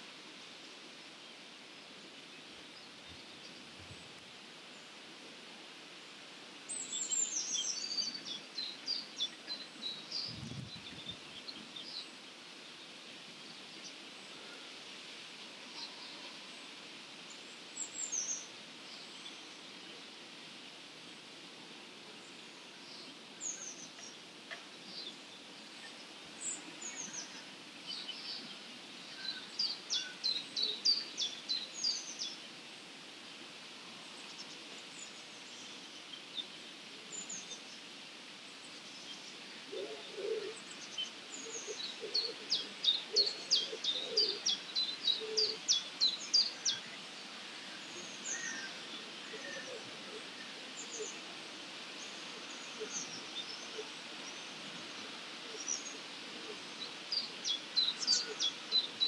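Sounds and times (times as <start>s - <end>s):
background hiss: 0.0s - 59.0s
songbirds chirping: 0.0s - 59.0s.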